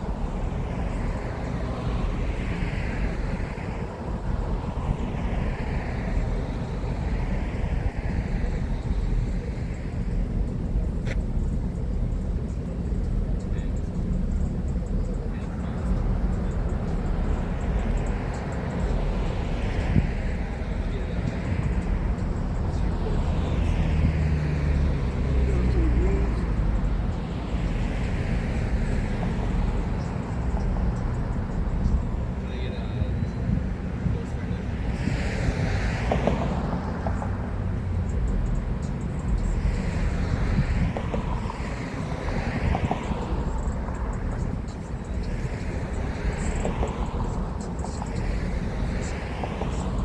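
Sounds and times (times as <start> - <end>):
outdoor background rumble and hiss: 0.0 - 50.0.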